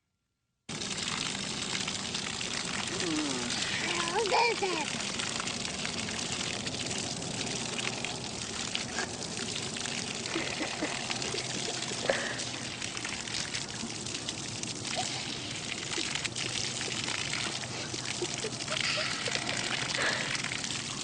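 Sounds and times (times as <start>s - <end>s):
trickling running water: 0.7s - 21.0s.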